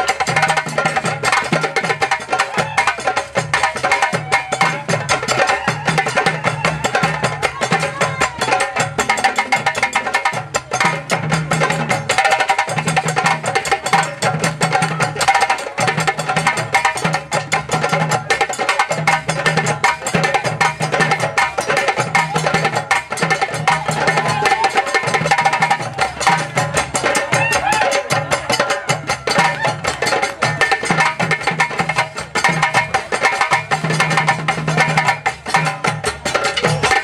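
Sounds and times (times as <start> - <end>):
djembes playing fast rhythm: 0.0 - 37.0.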